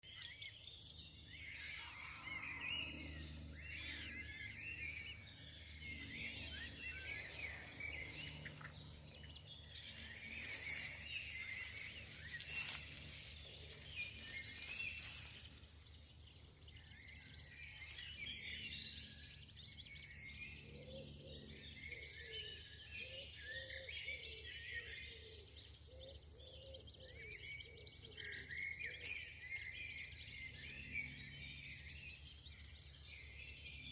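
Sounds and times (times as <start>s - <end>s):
low background hum: 0.0s - 33.9s
small birds chirping: 0.0s - 33.9s.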